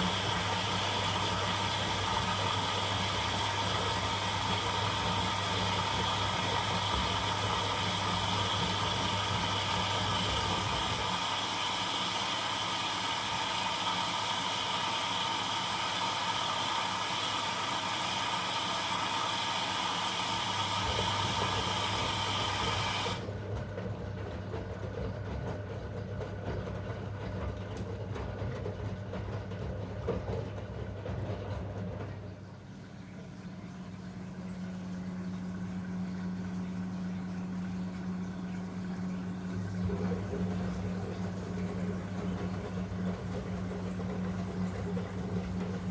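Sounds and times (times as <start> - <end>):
washing machine low hum: 0.0 - 45.9
washing machine rushing noise: 0.0 - 45.9.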